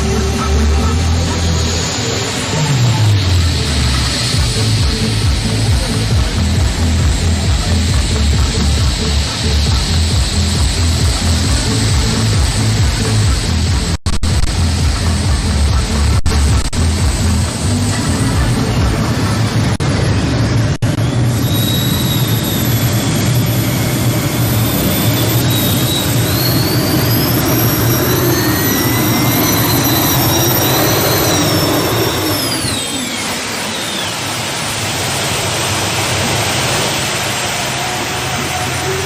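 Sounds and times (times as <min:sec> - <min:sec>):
high whine: 0:00.0 - 0:39.0
tractor engine at full power: 0:00.0 - 0:39.0.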